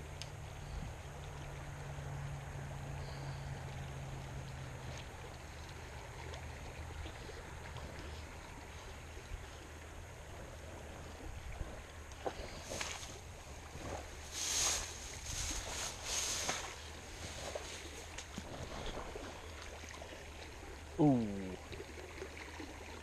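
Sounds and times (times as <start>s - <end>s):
creek water flowing: 0.0s - 23.0s.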